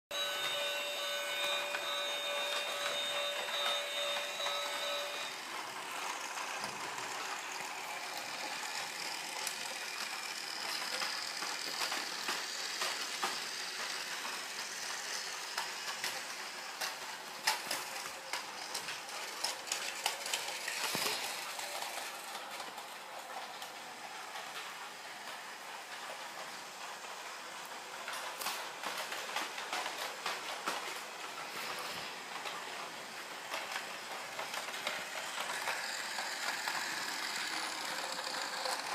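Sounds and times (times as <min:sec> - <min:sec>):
train wheels clicking on rails: 0:00.1 - 0:38.9.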